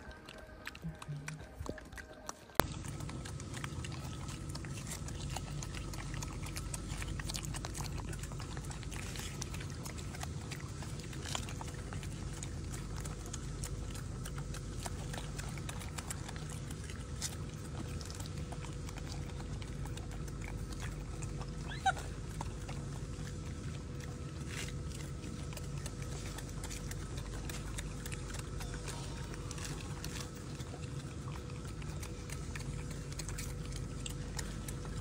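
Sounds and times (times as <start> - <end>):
low background hum: 0.0 - 35.0
monkeys chewing food: 0.0 - 35.0.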